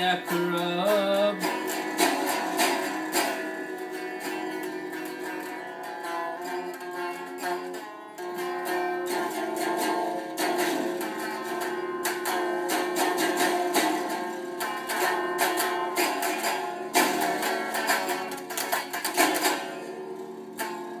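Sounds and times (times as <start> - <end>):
guitar-like plucked string music: 0.0 - 21.0.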